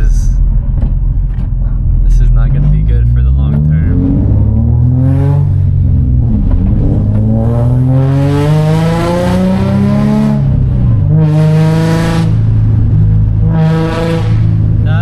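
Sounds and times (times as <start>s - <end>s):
loud raspy car exhaust accelerating: 0.0s - 15.0s.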